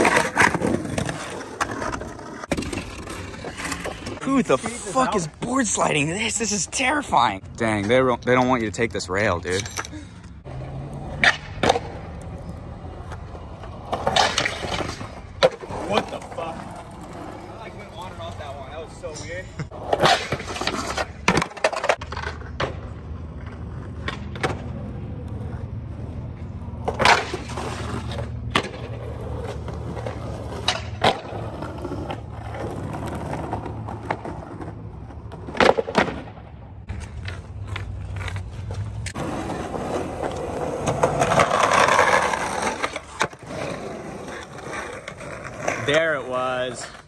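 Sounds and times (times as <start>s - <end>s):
skateboard clacking on ground: 0.0s - 5.5s, 10.9s - 25.6s, 26.8s - 47.0s
skateboard grinding on concrete: 0.0s - 7.2s, 10.4s - 47.0s
skateboard wheels rumbling on asphalt: 0.0s - 7.2s, 10.4s - 47.0s.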